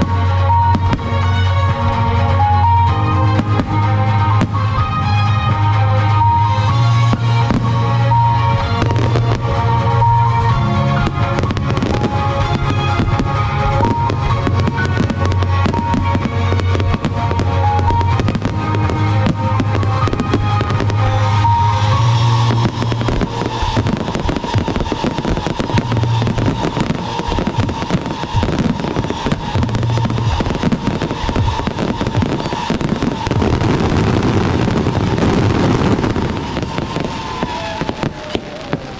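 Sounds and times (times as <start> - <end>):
music with heavy bass: 0.0 - 37.1
fireworks bangs and crackles: 0.0 - 38.9.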